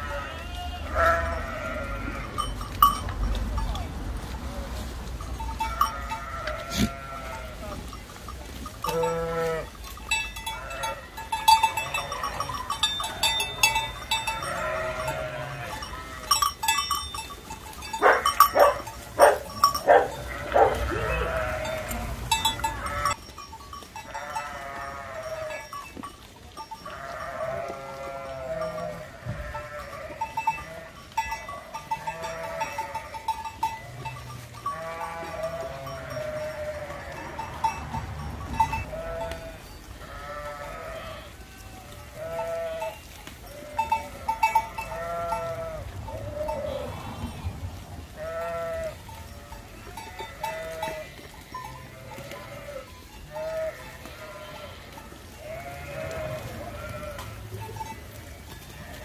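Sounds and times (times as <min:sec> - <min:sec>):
sheep bleating: 0:00.0 - 0:02.5, 0:05.6 - 0:07.9, 0:08.8 - 0:09.7, 0:10.4 - 0:16.5, 0:18.0 - 0:23.2, 0:24.1 - 0:25.7, 0:26.9 - 0:31.0, 0:31.7 - 0:47.6, 0:48.2 - 0:59.0
small bells tinkling: 0:01.5 - 0:04.0, 0:05.0 - 0:41.6, 0:42.2 - 0:47.6, 0:48.2 - 0:59.0.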